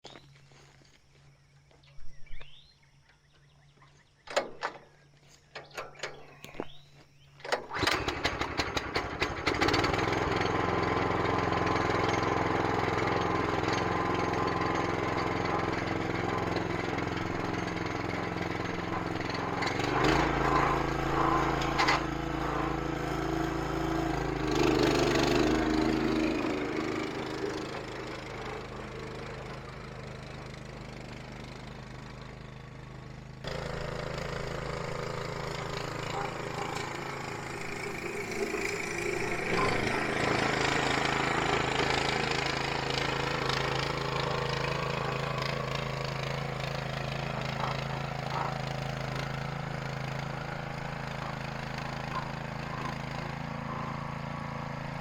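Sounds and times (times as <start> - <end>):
small gasoline engine running: 7.4 - 55.0.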